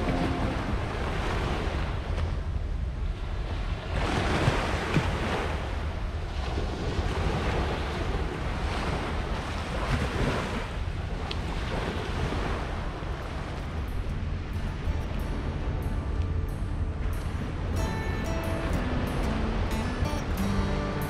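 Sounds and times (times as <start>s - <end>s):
small waves washing onto beach: 0.0s - 21.0s
wind rumbling on microphone: 0.0s - 21.0s.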